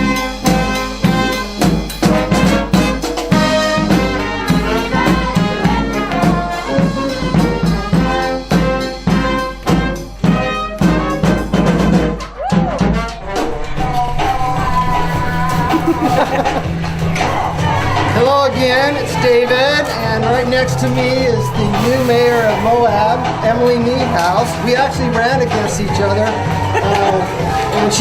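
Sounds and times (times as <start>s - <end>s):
marching brass band playing: 0.0s - 28.0s
steady drum beat: 0.0s - 28.0s.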